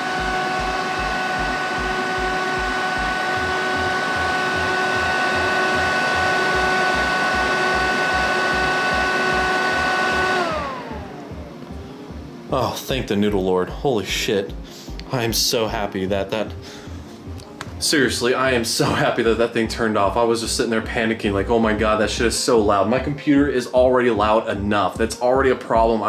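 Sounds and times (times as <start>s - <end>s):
cooling fans whining: 0.0s - 26.0s.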